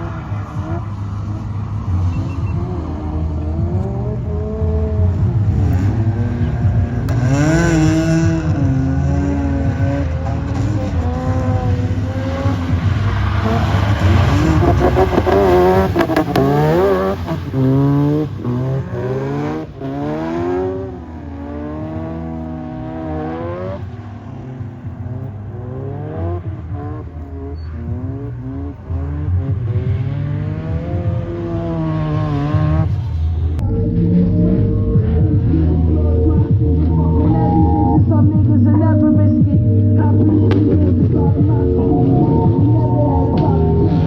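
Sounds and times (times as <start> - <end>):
rotary engine revving: 0.0 - 44.0.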